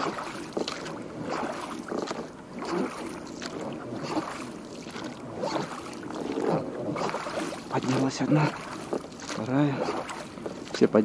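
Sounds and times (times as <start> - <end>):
oars splashing in water: 0.0 - 11.0.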